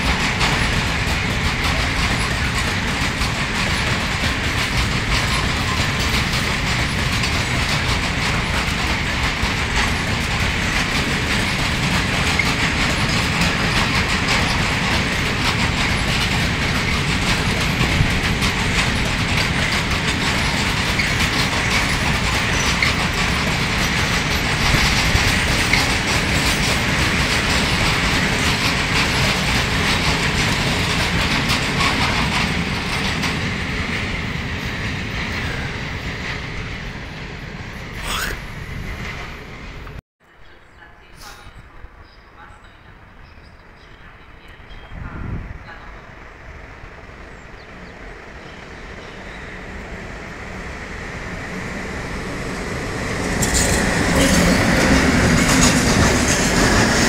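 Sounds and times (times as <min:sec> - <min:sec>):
train wagons rolling on track: 0:00.0 - 0:57.0.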